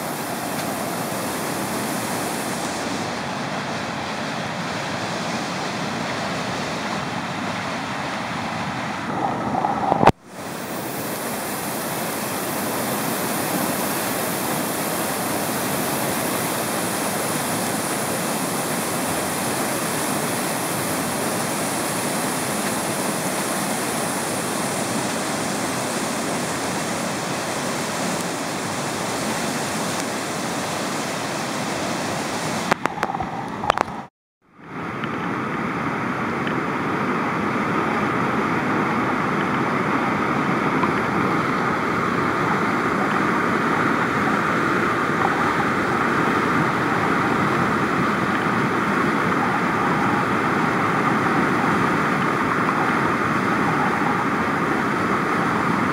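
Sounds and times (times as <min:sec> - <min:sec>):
whitewater rushing: 0:00.0 - 0:55.9.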